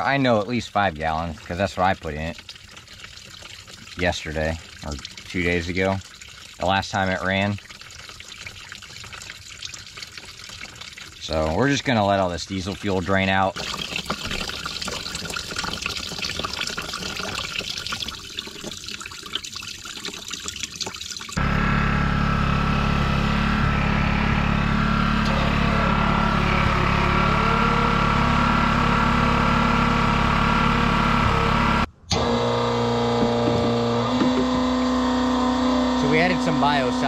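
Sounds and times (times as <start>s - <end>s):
fuel trickling and splashing: 0.0s - 37.0s.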